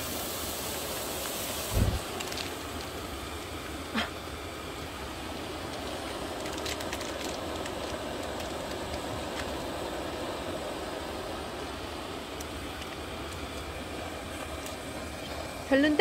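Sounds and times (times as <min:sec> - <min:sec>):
gas burner roaring: 0:00.0 - 0:16.0.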